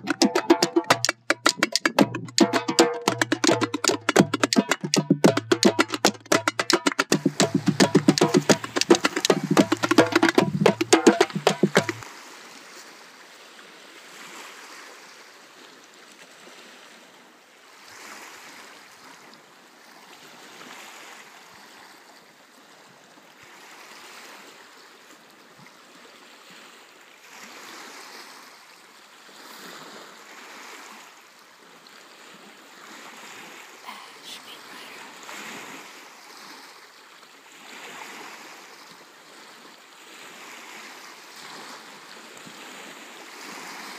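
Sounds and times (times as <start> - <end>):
small waves lapping at shore: 0.0 - 43.9.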